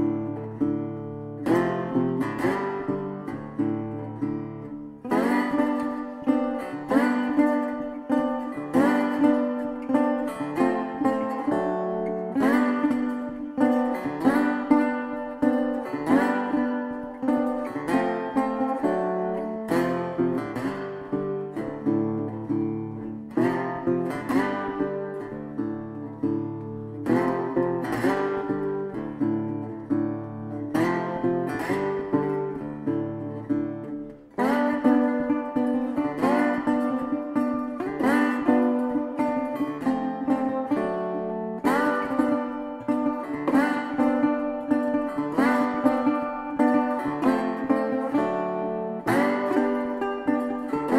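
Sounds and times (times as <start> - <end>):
acoustic guitar plucked notes: 0.0 - 50.9.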